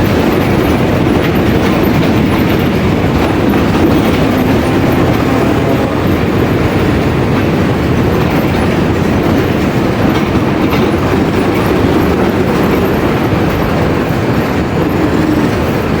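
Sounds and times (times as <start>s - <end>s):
diesel bus engine rumbling: 0.0s - 16.0s.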